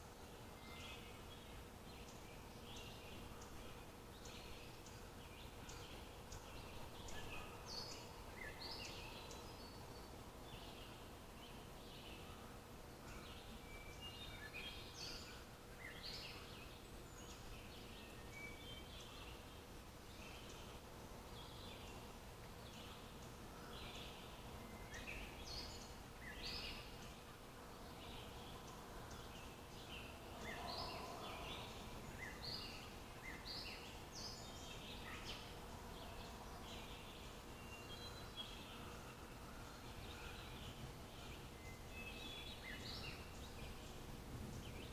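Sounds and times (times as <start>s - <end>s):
outdoor ambience hiss: 0.0s - 44.9s
songbirds chirping: 0.0s - 44.9s.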